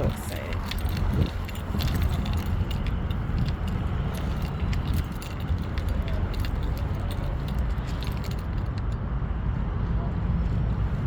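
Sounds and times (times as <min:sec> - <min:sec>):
light clicks and jingles: 0:00.0 - 0:09.1
low outdoor rumble: 0:00.0 - 0:11.0.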